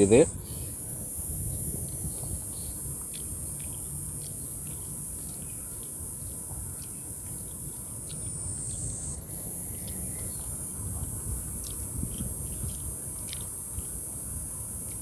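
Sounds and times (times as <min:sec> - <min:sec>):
cicadas shrilling: 0:00.0 - 0:15.0.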